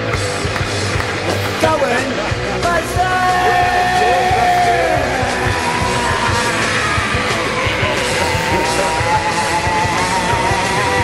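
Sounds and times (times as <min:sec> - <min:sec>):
rock song with guitar and drums: 0:00.0 - 0:11.0.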